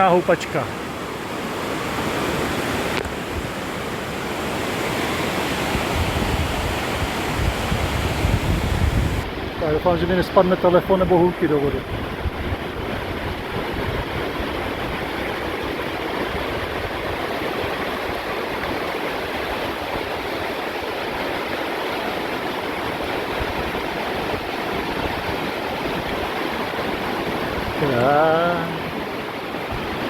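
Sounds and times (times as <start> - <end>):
creek rushing: 0.0 - 30.0.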